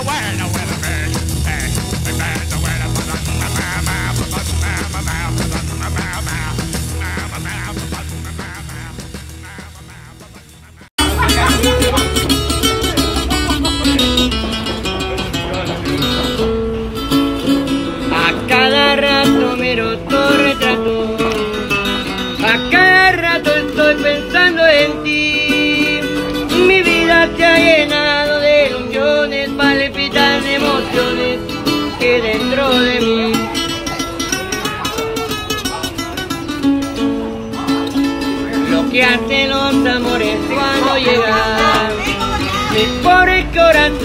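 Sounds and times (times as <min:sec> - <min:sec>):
man singing: 0:00.0 - 0:34.4, 0:38.0 - 0:44.0
acoustic guitar: 0:00.0 - 0:44.0.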